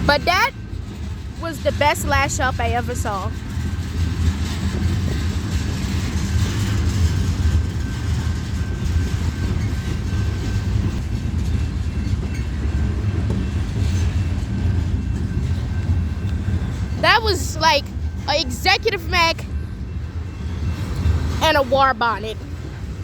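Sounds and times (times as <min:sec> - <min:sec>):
freight train rumble: 0:00.0 - 0:23.0.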